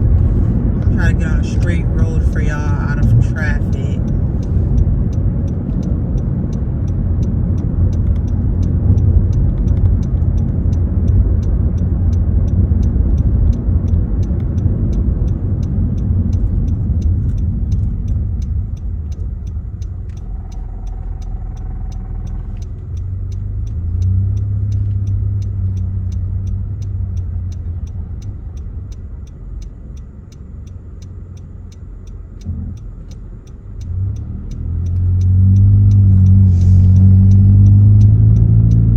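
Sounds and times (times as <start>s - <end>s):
loud low car exhaust rumble: 0.0s - 38.9s.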